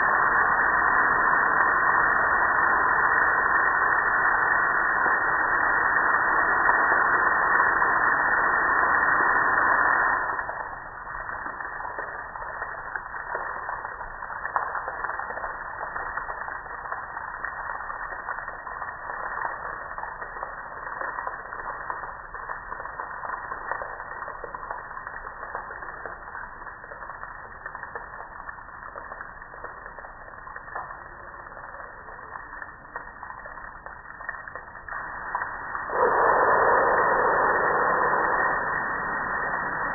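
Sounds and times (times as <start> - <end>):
water pattering on metal grill: 0.0 - 39.9.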